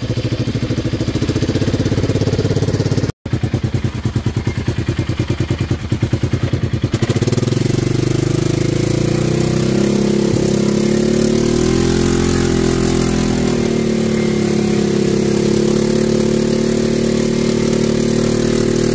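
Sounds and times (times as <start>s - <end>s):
off-road vehicle engine revving: 0.0s - 18.9s.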